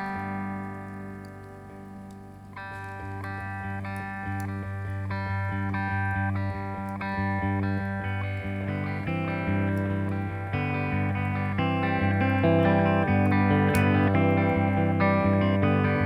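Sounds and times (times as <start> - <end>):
plucked guitar riff: 0.0 - 16.0.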